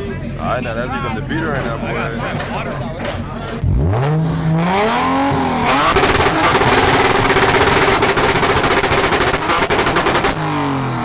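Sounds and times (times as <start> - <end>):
car engine on rev limiter: 0.0 - 11.0
exhaust pops and bangs: 1.3 - 11.0.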